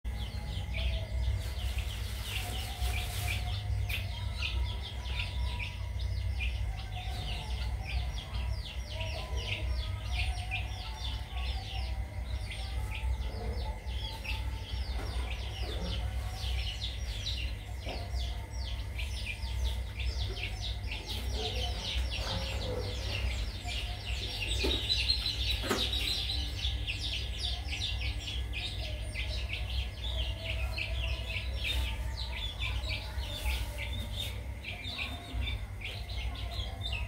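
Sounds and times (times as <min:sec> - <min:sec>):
birds chirping: 0:00.0 - 0:37.0
steady low hum: 0:00.0 - 0:37.0.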